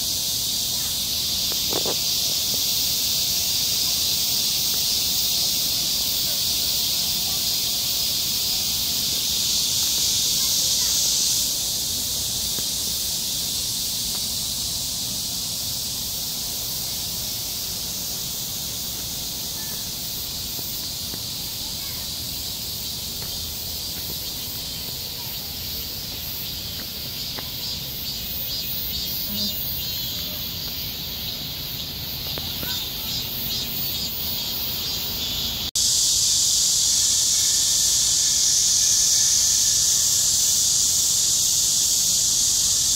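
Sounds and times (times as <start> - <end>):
fast pulsing insect call: 0.0 - 42.9
insects singing: 0.0 - 42.9.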